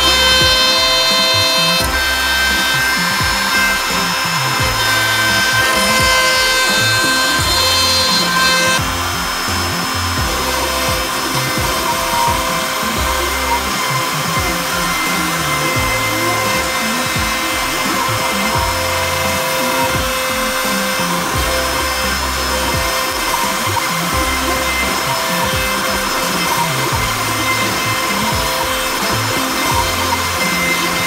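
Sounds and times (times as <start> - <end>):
background music: 0.0 - 31.0
router spindle whining: 0.0 - 31.0.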